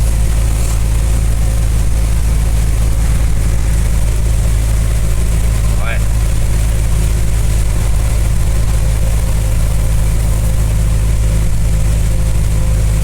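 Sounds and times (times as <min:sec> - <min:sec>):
heavy rain on cab: 0:00.0 - 0:13.0
truck engine running: 0:00.0 - 0:13.0.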